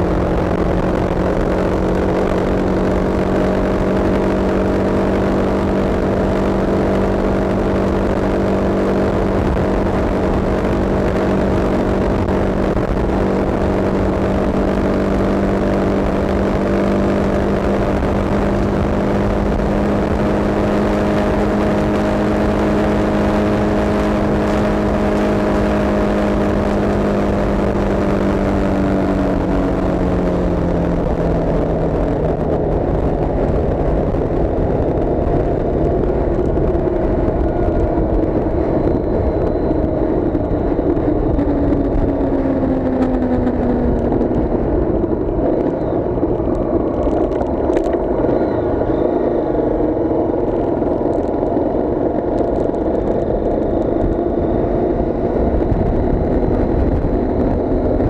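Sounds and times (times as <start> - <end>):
road rumble: 0.0 - 58.0
vehicle engine running: 0.0 - 58.0.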